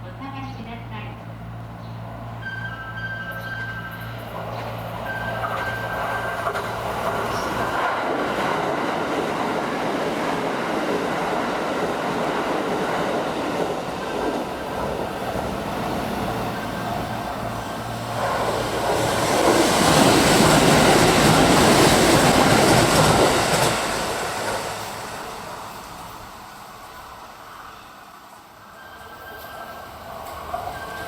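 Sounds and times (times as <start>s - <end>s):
train wheels rumbling on rails: 0.2s - 31.0s.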